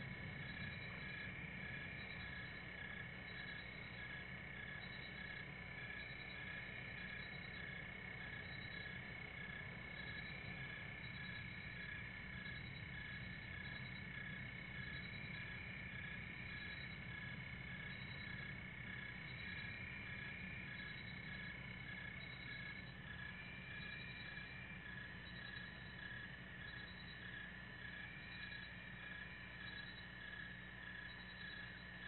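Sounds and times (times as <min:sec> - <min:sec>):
crickets trilling: 0:00.0 - 0:32.0
frogs chirping: 0:00.0 - 0:32.0
low steady rumble: 0:00.0 - 0:32.0.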